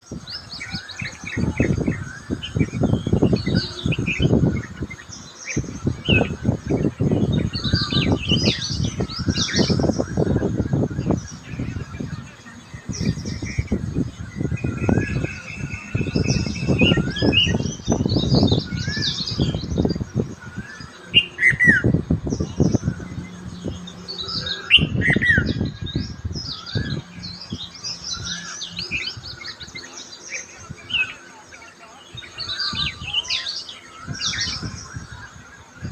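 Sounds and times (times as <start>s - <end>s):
songbirds chirping and trilling: 0.0s - 35.9s.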